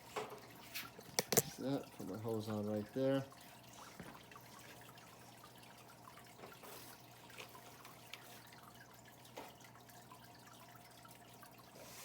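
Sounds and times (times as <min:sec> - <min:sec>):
water trickling from hose: 0:00.0 - 0:12.0.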